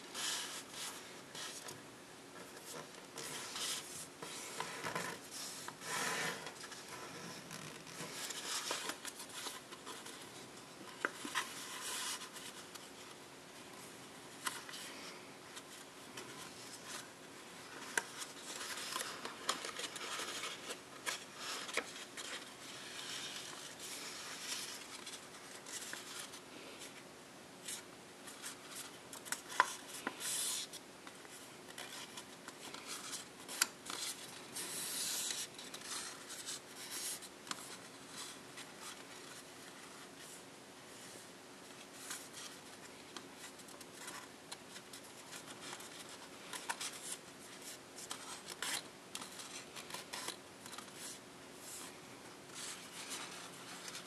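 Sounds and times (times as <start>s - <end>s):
paper rustling and creasing: 0.1s - 13.2s, 13.8s - 27.0s, 27.6s - 54.0s.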